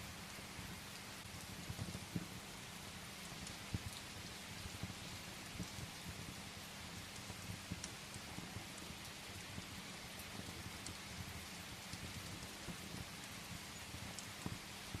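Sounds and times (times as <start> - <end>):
rain pattering against window: 0.0 - 15.0
wood fire crackling: 0.0 - 15.0.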